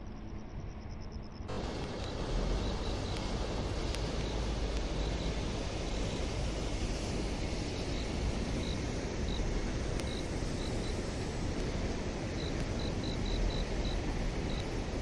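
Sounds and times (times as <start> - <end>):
low background rumble and hiss: 0.0 - 15.0.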